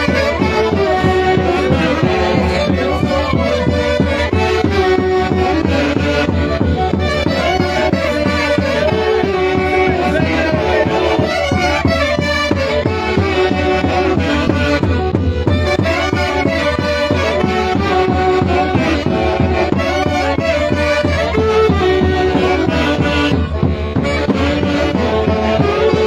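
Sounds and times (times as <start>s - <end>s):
wind and string instruments melody: 0.0s - 26.0s.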